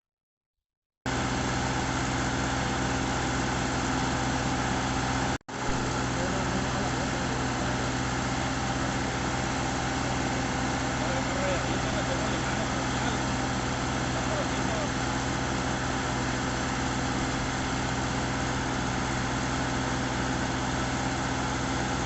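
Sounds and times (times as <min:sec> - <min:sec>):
tractor engine running: 0:01.1 - 0:22.0.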